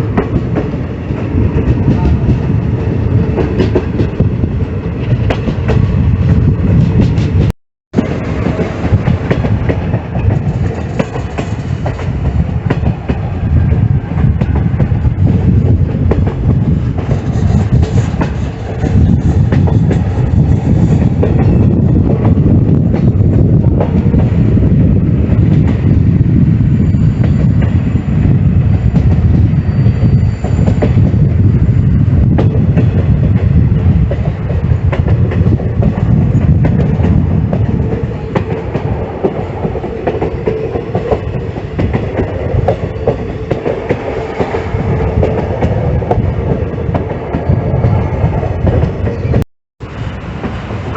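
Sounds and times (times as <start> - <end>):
passenger train rumbling: 0.0 - 50.9.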